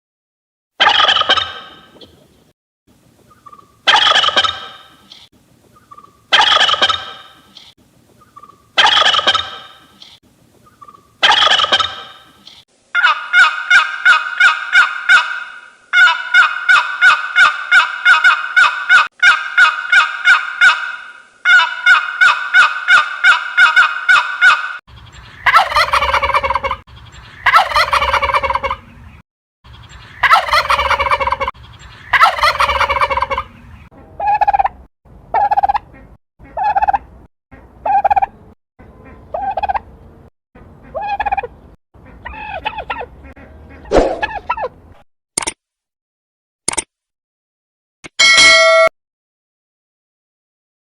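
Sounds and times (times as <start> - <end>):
turkey gobbling: 0.8 - 2.2, 3.3 - 38.3, 39.0 - 39.9, 40.8 - 44.8.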